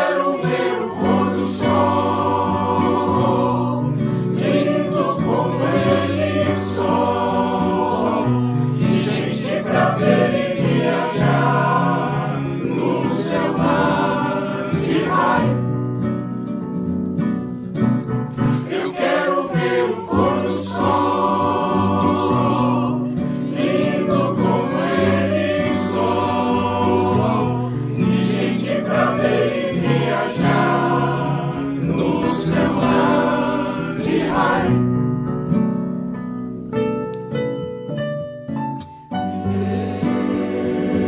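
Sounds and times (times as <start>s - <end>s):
choir singing in harmony: 0.0s - 16.3s, 18.4s - 35.1s, 39.3s - 41.0s
instrumental accompaniment: 0.0s - 41.0s.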